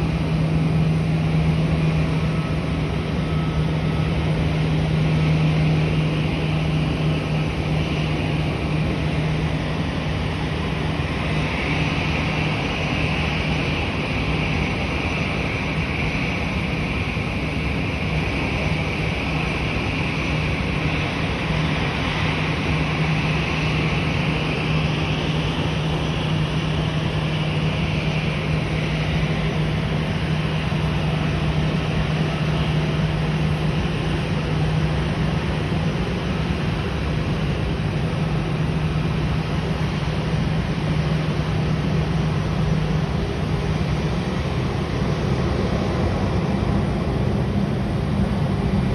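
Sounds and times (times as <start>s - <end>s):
jet engine drone: 0.0s - 48.9s.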